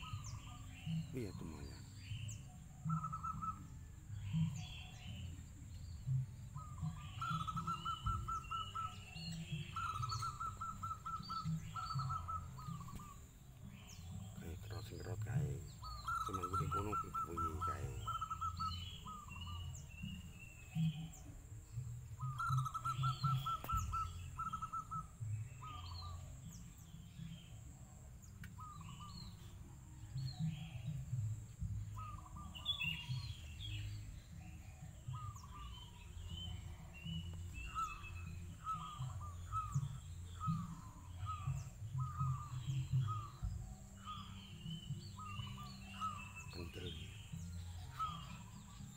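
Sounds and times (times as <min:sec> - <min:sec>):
doves cooing: 0:00.0 - 0:05.5, 0:06.2 - 0:48.9
small birds chirping: 0:00.0 - 0:48.9.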